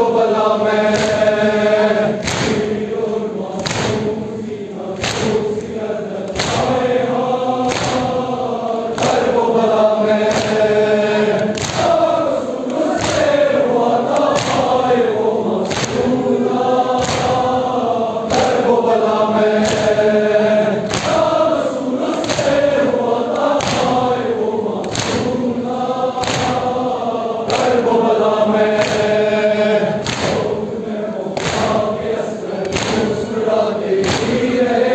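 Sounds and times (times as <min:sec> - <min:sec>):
crowd of men chanting: 0:00.0 - 0:34.9
rhythmic chest-beating slaps: 0:00.0 - 0:34.9.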